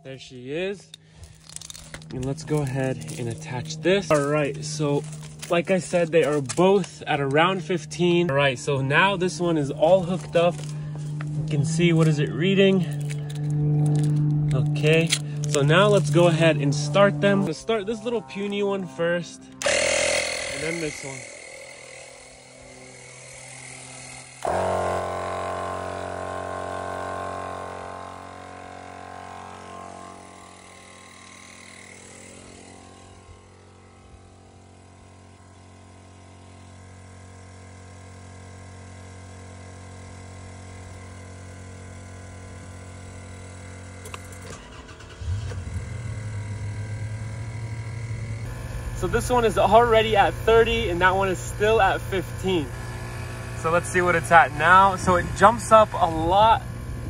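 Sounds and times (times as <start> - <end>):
air compressor droning: 0.0 - 57.0
low hum: 0.0 - 57.0
tire inflator humming: 0.0 - 57.0.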